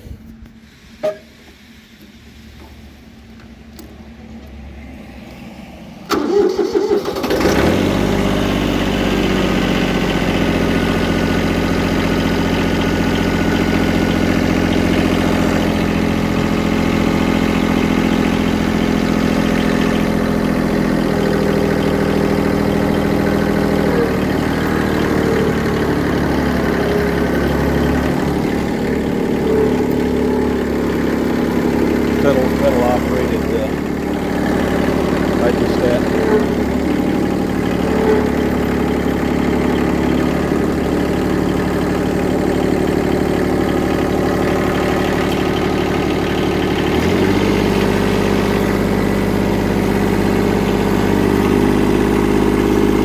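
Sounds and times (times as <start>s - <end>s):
diesel engine cranking and idling: 0.0s - 53.0s.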